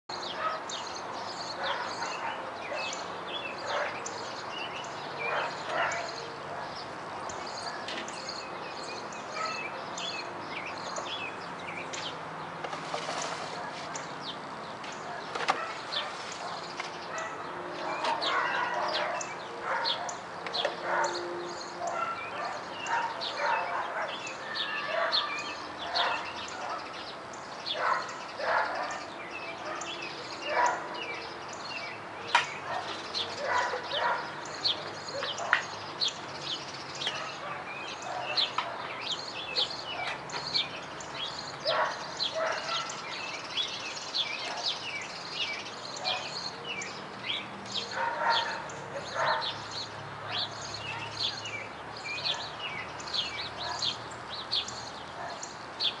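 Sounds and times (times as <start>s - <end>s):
birds chirping: 0.1s - 56.0s
steady outdoor hiss: 0.1s - 56.0s.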